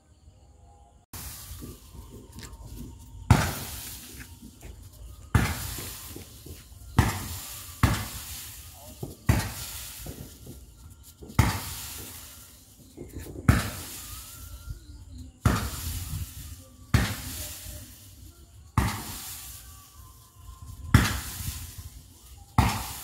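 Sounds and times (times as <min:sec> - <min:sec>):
firework bangs: 0:01.1 - 0:18.2, 0:18.8 - 0:19.6, 0:20.6 - 0:23.0
crackling hissing sparks: 0:01.1 - 0:23.0.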